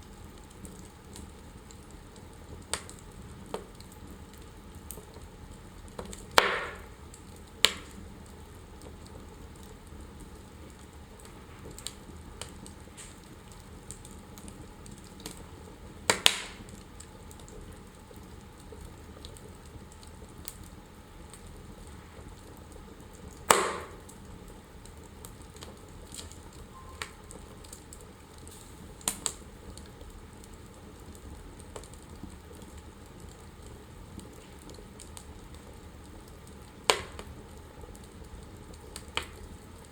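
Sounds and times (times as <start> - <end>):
soft steady hiss: 0.0 - 39.9
wood fire crackling: 0.0 - 39.9
burning logs popping loudly: 0.3 - 39.9.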